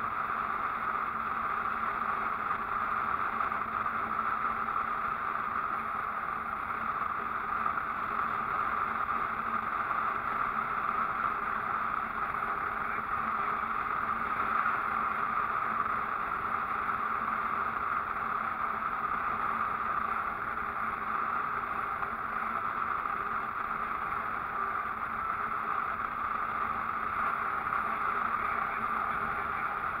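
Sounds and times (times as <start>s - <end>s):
tyres on road: 0.0s - 30.0s
vehicle engine: 0.0s - 30.0s.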